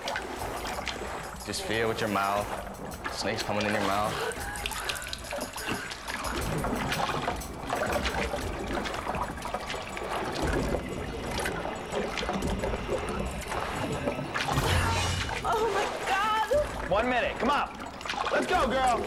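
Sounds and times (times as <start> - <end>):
water sloshing and trickling: 0.0 - 19.0.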